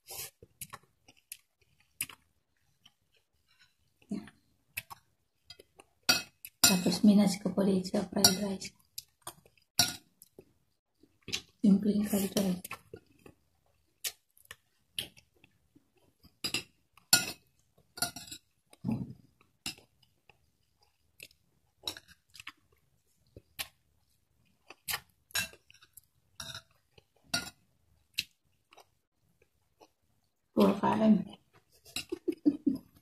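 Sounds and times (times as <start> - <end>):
person chewing: 0.0 - 6.6, 8.8 - 11.6, 12.6 - 30.5.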